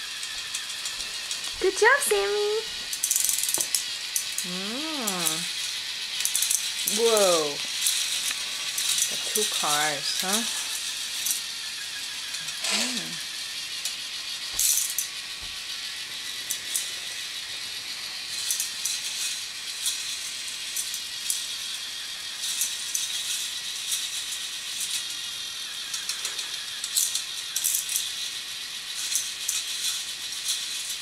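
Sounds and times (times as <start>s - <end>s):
plastic cars clicking on track: 0.1s - 31.0s.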